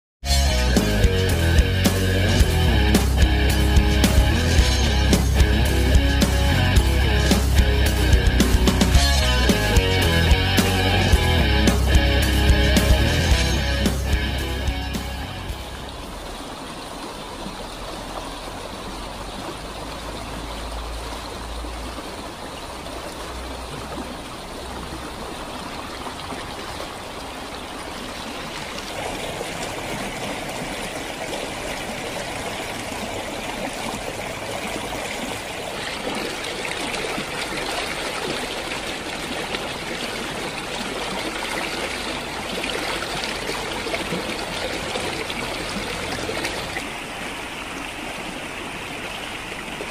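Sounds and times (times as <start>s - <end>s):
stream rushing over stones: 0.8s - 49.9s.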